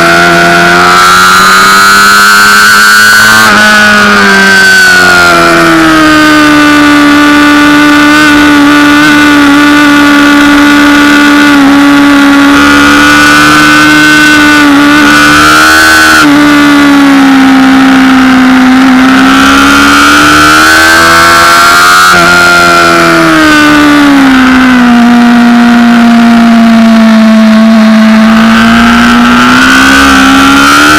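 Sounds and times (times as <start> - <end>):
motorcycle engine at high revs: 0.0 - 30.9.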